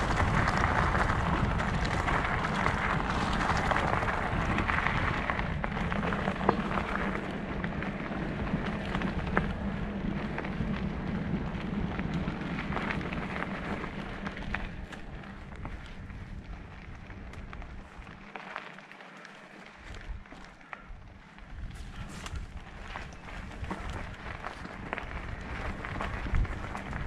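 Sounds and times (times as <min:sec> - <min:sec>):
wind rumble on microphone: 0:00.0 - 0:18.3, 0:19.7 - 0:27.0
bike rattles and clicks: 0:00.0 - 0:27.0
bike tyres rolling on gravel: 0:00.0 - 0:27.0.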